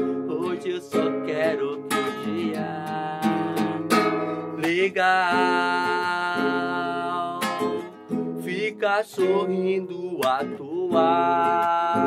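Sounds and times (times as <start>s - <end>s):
acoustic guitar chords: 0.0s - 12.0s
man singing: 0.0s - 12.0s.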